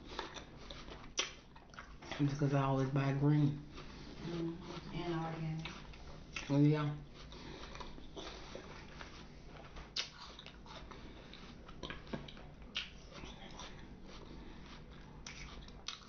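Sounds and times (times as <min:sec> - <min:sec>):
chewing crisp fruit: 0:00.0 - 0:16.0.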